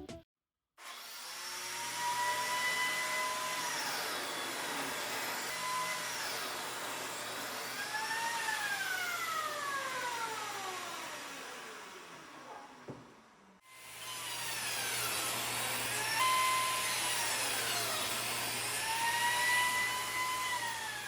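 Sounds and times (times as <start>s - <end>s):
power tool motor whirring: 0.8s - 13.0s, 13.7s - 21.0s.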